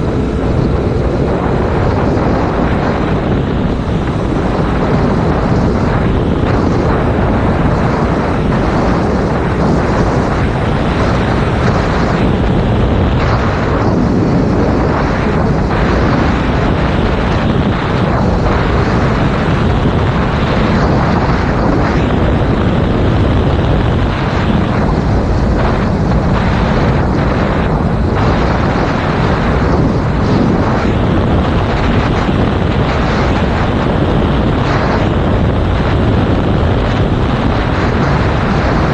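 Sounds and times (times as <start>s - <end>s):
wind noise on microphone: 0.0s - 38.9s.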